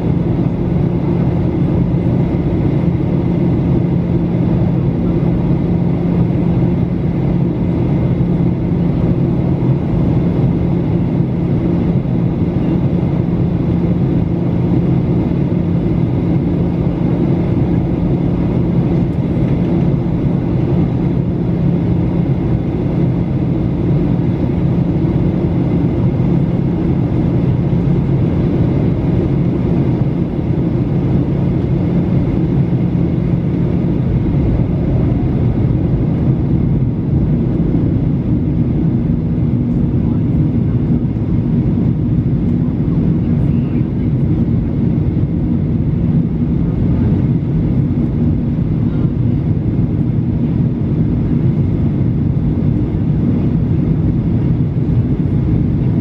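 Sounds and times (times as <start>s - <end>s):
jet engines and airflow rushing: 0.0s - 56.0s
low cabin hum: 0.0s - 56.0s.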